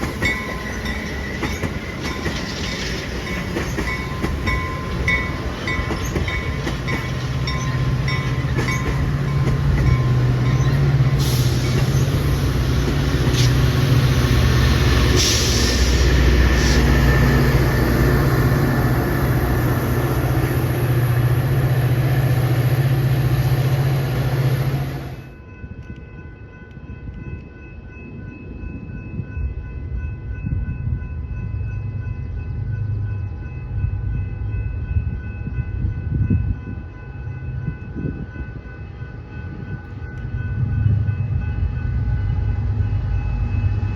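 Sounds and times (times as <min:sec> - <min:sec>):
crossing bell ringing: 0:00.0 - 0:43.9
diesel train engine drone: 0:00.0 - 0:43.9.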